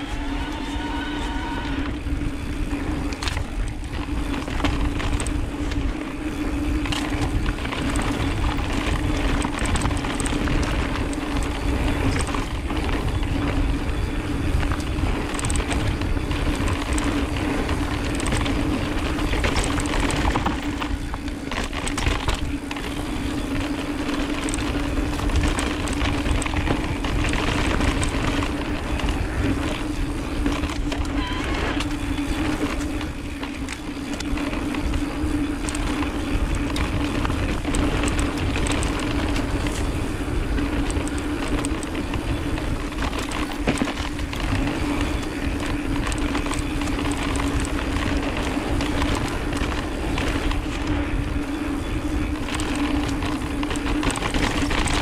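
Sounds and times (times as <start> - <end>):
bike rattling and knocking: 0.0 - 55.0
low hum: 0.0 - 55.0
trail rumble: 0.0 - 55.0
wind: 0.0 - 55.0.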